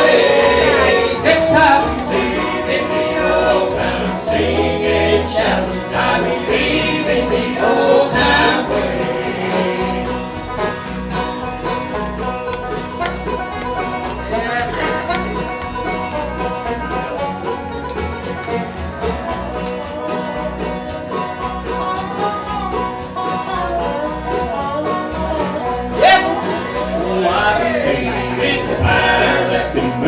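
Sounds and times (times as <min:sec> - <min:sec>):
plucked strings: 0:00.0 - 0:30.0.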